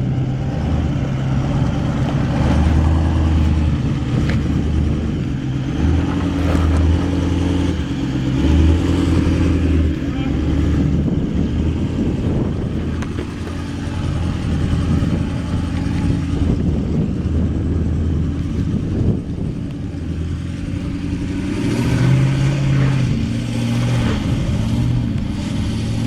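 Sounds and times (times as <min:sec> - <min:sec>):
diesel engine revving: 0:00.0 - 0:26.0.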